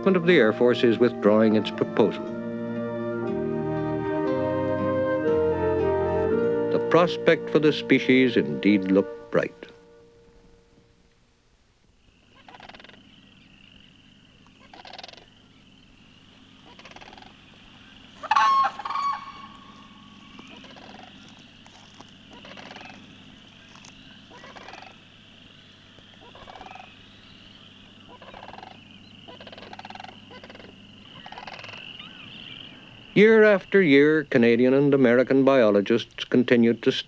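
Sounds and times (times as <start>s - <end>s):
wild birds calling: 0.0s - 10.8s, 11.9s - 37.0s.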